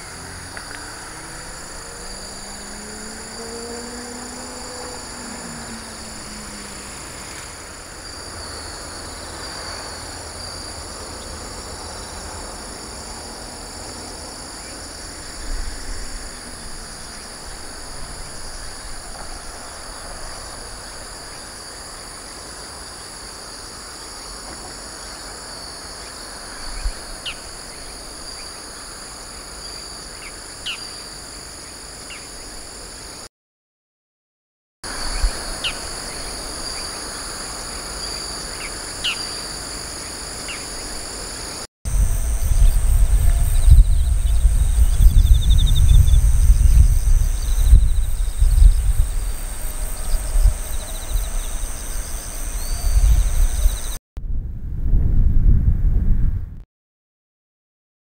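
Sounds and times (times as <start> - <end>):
crickets trilling: 0.0 - 33.3, 34.9 - 54.0.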